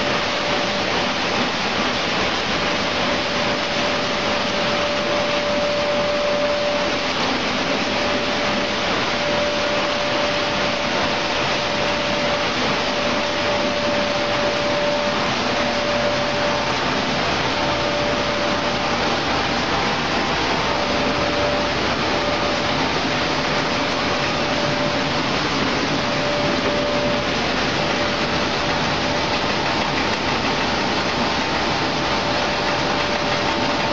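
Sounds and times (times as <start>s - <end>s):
faint steady whine: 0.0s - 33.9s
processing machinery din: 0.0s - 33.9s.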